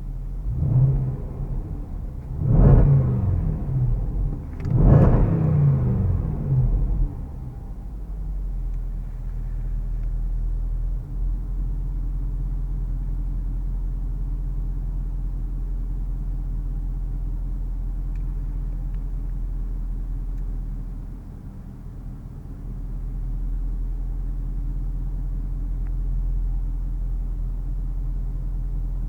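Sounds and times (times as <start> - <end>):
car engine droning: 0.0 - 29.0
road rumble: 0.0 - 29.0.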